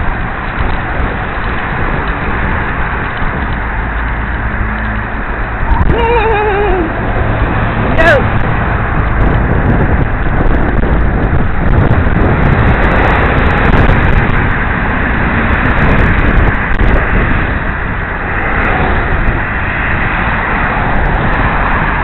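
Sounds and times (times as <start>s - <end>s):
wind roaring over microphone: 0.0s - 22.0s.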